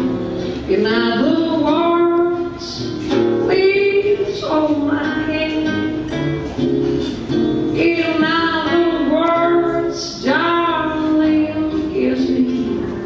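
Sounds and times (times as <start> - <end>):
woman singing: 0.0 - 6.1, 7.7 - 13.0
guitar accompaniment: 0.0 - 13.0.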